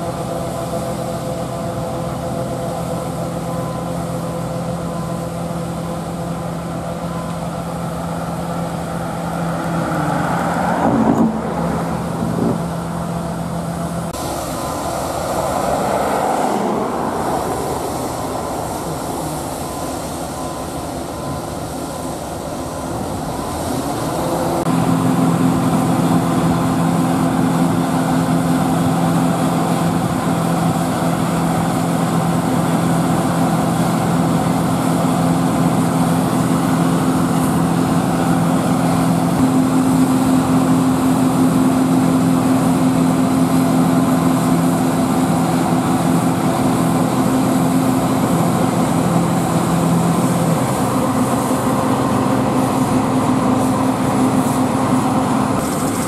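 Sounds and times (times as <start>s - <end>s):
combine harvester engine humming: 0.0s - 56.0s
machinery rushing noise: 8.3s - 56.0s.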